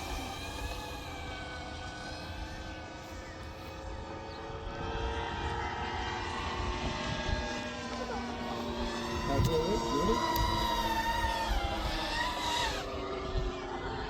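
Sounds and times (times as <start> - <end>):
electric motor and propeller droning: 0.0 - 14.0.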